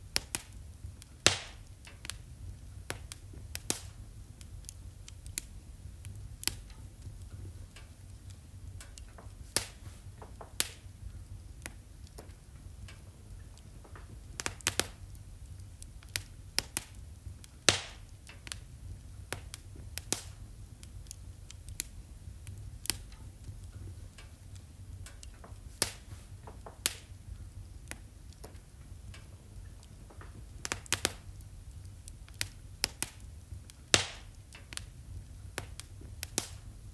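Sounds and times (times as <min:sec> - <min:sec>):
low steady rumble: 0:00.0 - 0:36.9
wood fire crackling: 0:00.0 - 0:36.9.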